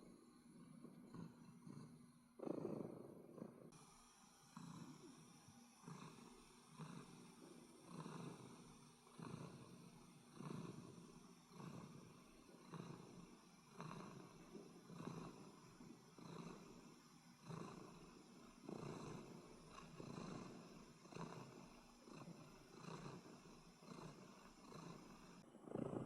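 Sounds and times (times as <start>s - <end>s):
cat snoring: 0.0s - 26.0s.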